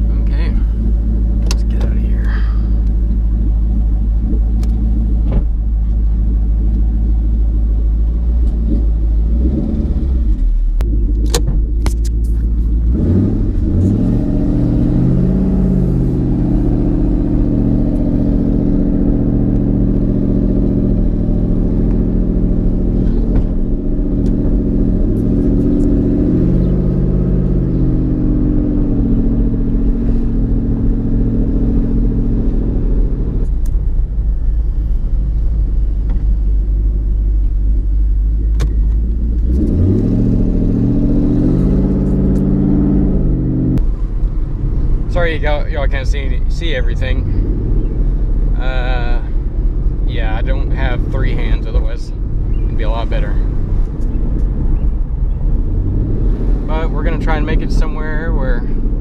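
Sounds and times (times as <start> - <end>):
car engine accelerating through gears: 7.8 - 59.0.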